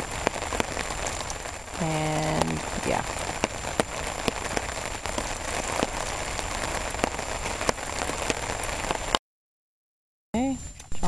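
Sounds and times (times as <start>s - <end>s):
steady rain falling: 0.0s - 9.2s.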